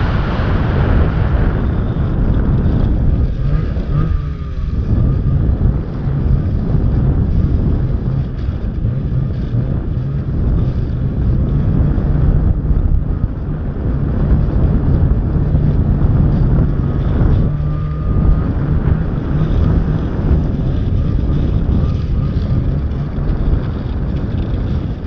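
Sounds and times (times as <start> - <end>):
snowmobile engine running: 0.0 - 25.0
wind noise on microphone: 0.0 - 25.0.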